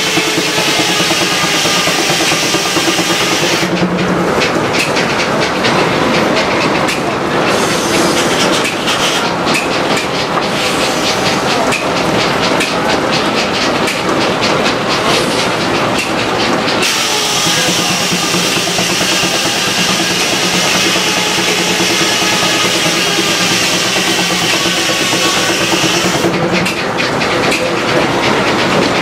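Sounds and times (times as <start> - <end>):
sawmill clattering: 0.0 - 29.0
steady machine hum: 0.0 - 29.0.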